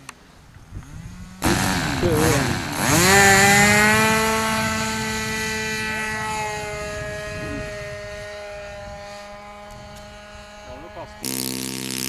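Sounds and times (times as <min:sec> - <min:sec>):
model plane piston engine: 0:00.7 - 0:12.0.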